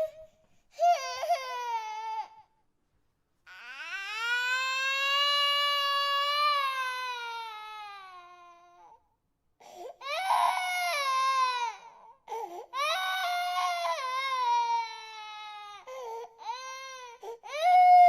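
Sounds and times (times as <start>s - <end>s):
infant crying: 0.0s - 2.5s, 3.5s - 9.0s, 9.6s - 18.0s.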